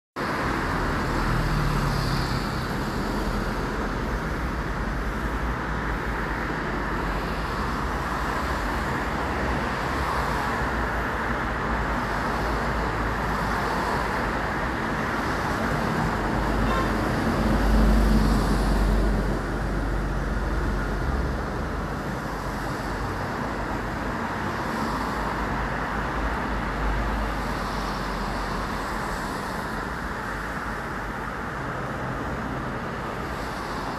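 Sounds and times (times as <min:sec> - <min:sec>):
road traffic rumble: 0:00.2 - 0:33.9.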